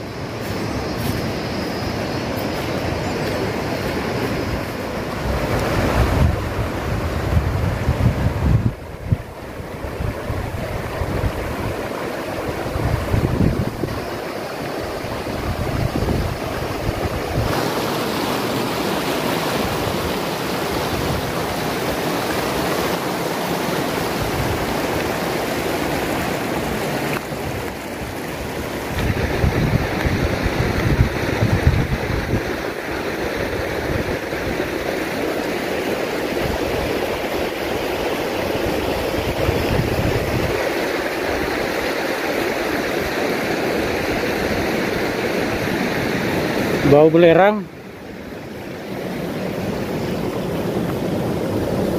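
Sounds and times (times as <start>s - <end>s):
wind rumbling on microphone: 0.0s - 47.0s, 47.9s - 51.9s.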